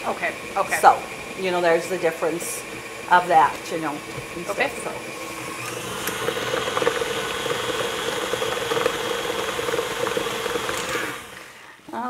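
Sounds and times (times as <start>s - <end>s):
electric hand mixer running: 0.0s - 11.8s.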